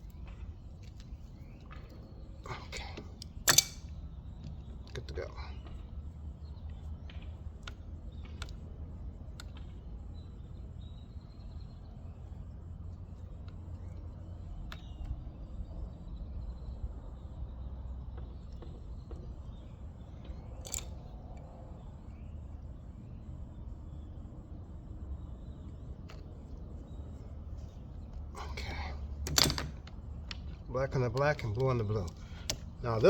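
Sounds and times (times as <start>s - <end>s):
low background rumble: 0.0s - 33.0s.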